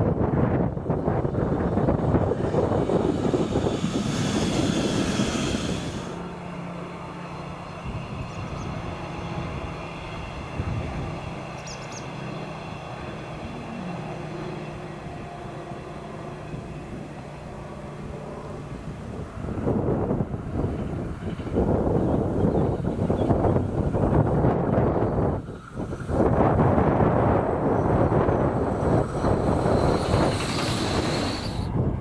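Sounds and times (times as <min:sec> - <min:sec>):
distant train electric hum: 0:00.0 - 0:32.0
train wheels rushing on rail: 0:00.0 - 0:32.0.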